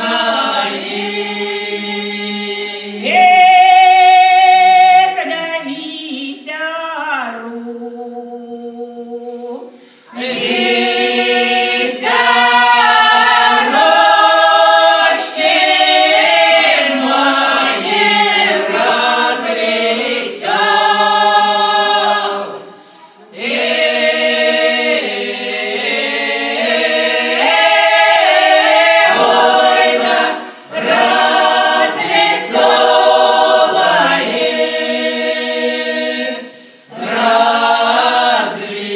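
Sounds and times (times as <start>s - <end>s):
choir singing unaccompanied: 0.0s - 5.8s, 7.3s - 38.9s.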